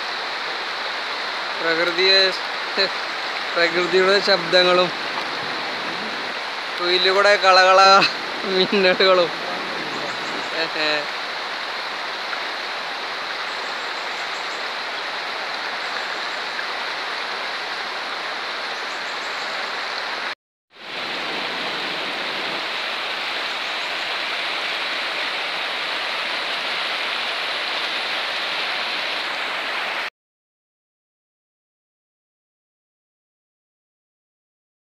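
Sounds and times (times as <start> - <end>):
river rushing over stones: 0.0 - 30.1.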